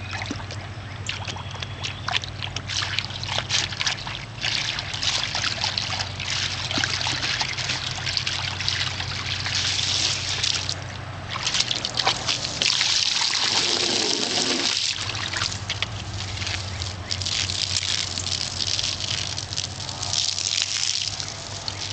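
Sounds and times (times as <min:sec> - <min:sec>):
dog splashing through water: 0:00.0 - 0:21.9
hose water splashing into pool: 0:00.0 - 0:21.9.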